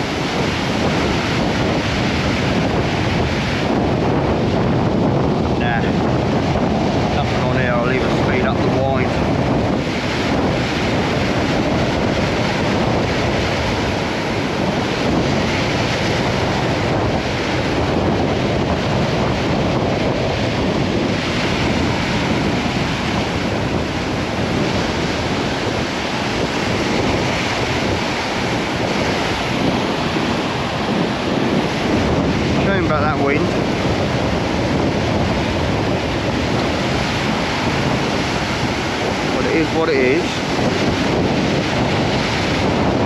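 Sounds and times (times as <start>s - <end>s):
small surf breaking on beach: 0.0s - 43.0s
wind buffeting microphone: 0.0s - 43.0s.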